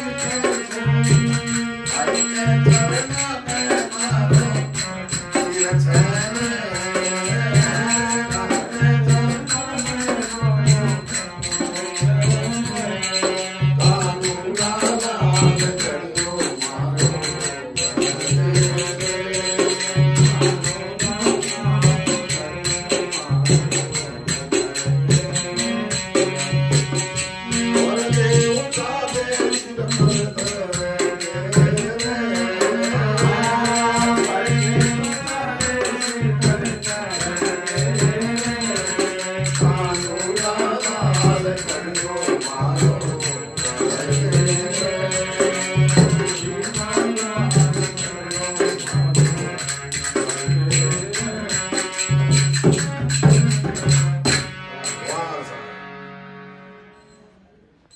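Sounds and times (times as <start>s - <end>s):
hand drum beating: 0.0s - 54.5s
jingling hand percussion: 0.0s - 55.6s
man singing: 0.0s - 55.8s
harmonium: 0.0s - 57.6s.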